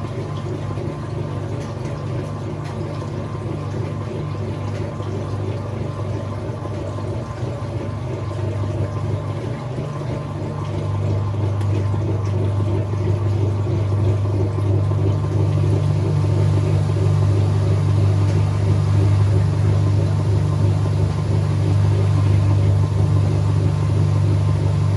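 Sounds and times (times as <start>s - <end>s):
washing machine motor hum: 0.0s - 24.9s.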